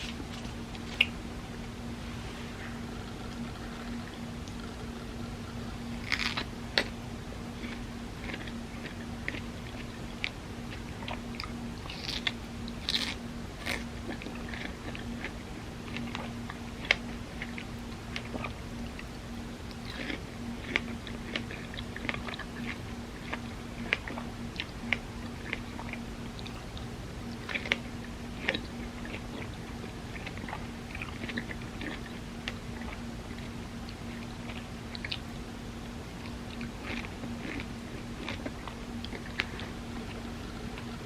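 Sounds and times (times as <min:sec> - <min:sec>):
low hum: 0:00.0 - 0:41.0
chewing with wet mouth smacks: 0:02.6 - 0:41.0.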